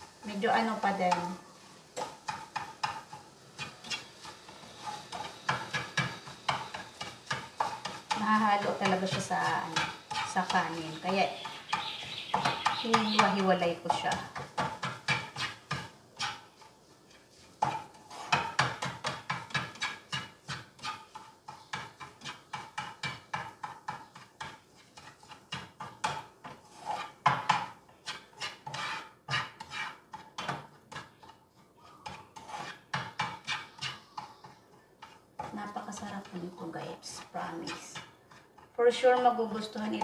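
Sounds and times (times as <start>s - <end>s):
spatula scraping frying pan: 0.0s - 40.0s.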